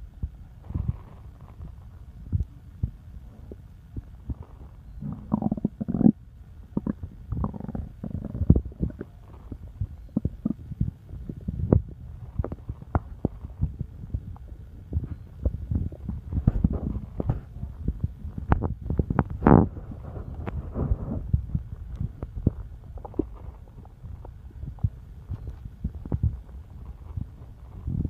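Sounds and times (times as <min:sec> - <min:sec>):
stomach rumbling and gurgling: 0:00.0 - 0:28.0.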